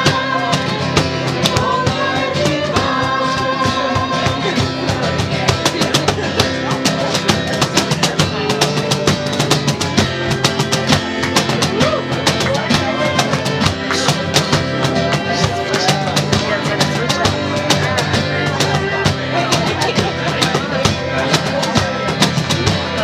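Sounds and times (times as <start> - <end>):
hand percussion strikes: 0.0 - 23.0
plucked strings: 0.0 - 23.0.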